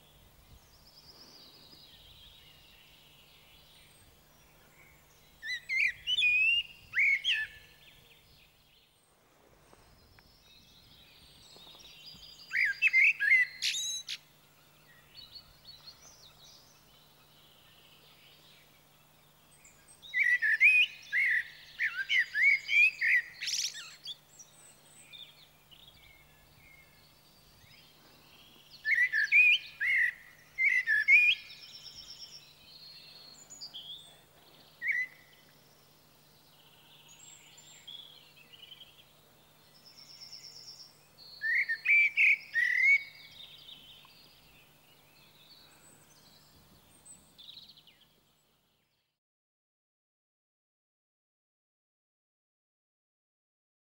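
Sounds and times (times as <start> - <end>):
blackbird singing: 0.0 - 9.0, 10.0 - 49.0.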